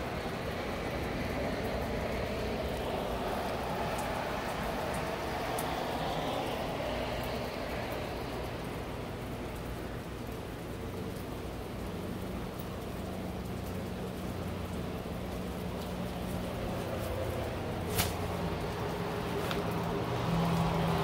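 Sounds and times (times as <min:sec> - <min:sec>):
faint drip-like ticks: 0:00.0 - 0:17.6
steady rain: 0:00.0 - 0:21.0
traffic tyre hiss on wet road: 0:00.0 - 0:21.0.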